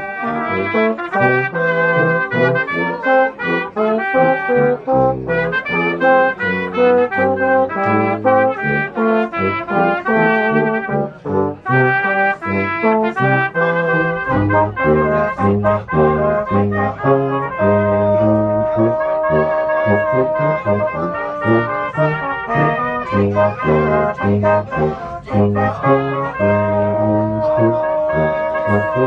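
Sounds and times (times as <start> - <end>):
brass music playing: 0.0 - 29.0.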